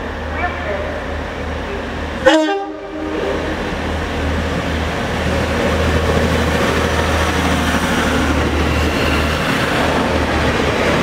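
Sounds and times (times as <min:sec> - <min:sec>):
train passing with low drone: 0:00.0 - 0:11.0.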